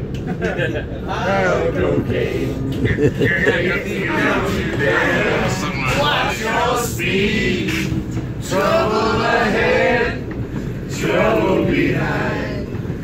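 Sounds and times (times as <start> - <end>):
low rumble: 0.4 - 13.0
men singing in unison: 1.1 - 10.2, 10.9 - 12.7.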